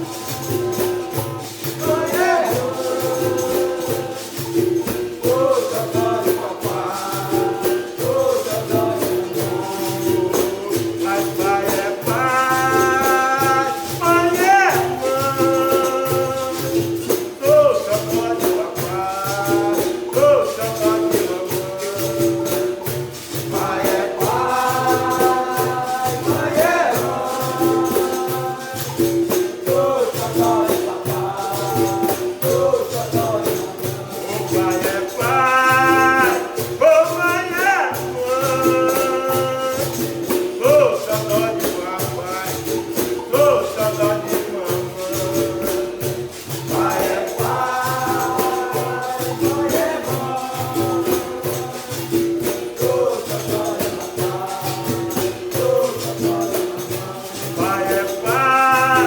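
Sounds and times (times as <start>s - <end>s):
berimbau and pandeiro rhythm: 0.0s - 59.0s
voices singing: 0.0s - 59.0s.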